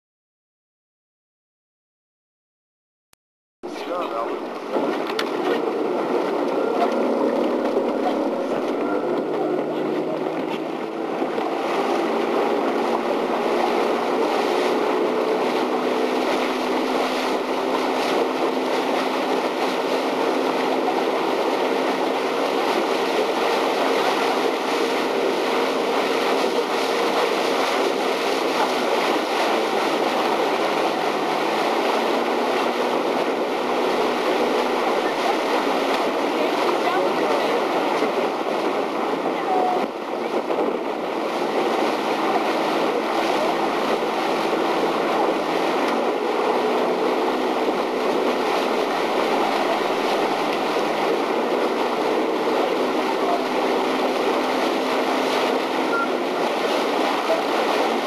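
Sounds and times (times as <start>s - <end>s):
boat motor running: 3.6s - 58.0s
water noise: 3.6s - 58.0s
wind: 3.6s - 58.0s.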